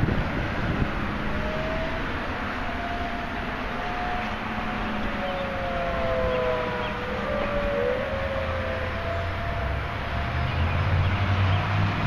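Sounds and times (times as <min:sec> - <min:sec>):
tornado warning sirens wailing: 0:00.0 - 0:12.0.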